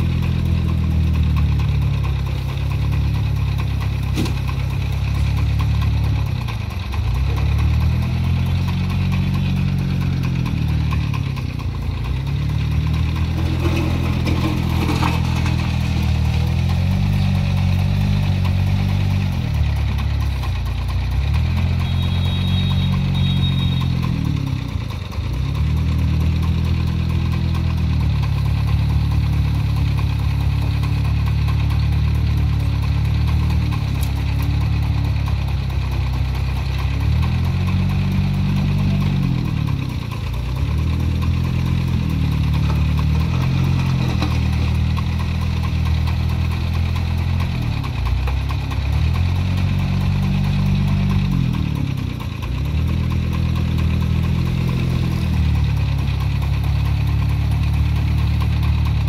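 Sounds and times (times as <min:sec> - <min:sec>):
wheel loader diesel engine: 0:00.0 - 0:59.0.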